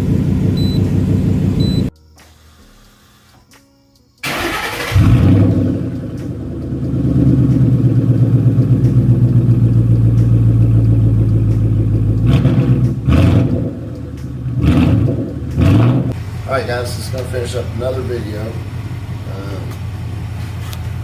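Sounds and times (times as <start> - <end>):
car engine starting and idling: 0.0 - 3.3, 4.2 - 21.0.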